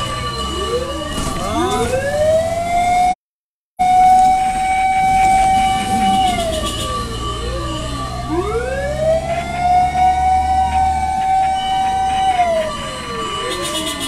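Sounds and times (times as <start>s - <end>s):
fire truck sirens wailing: 0.0s - 3.2s, 3.8s - 14.0s.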